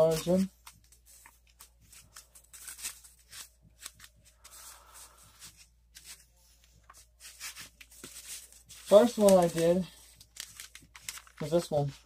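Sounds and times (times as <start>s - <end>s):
paper sheets rustling: 0.0s - 12.0s.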